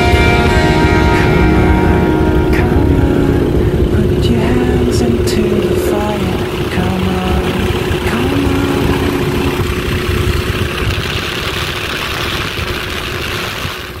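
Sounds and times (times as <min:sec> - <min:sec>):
air rushing over canopy: 0:00.0 - 0:14.0
propeller engine drone: 0:00.0 - 0:14.0.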